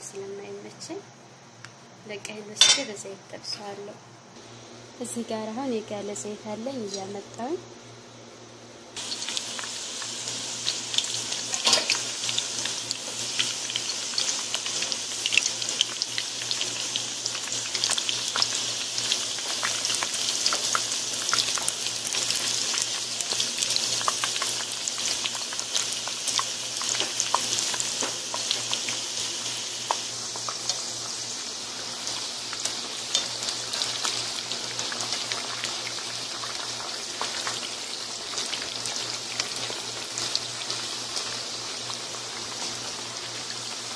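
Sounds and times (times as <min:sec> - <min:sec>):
eggplant sizzling in hot oil: 0:05.0 - 0:07.6, 0:08.9 - 0:43.9.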